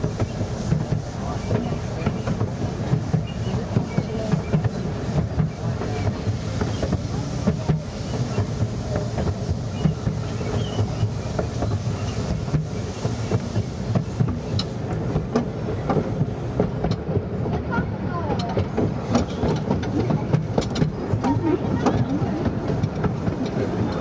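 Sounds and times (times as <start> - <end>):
train rumble: 0.0 - 24.0
wheels clicking on rails: 0.0 - 24.0.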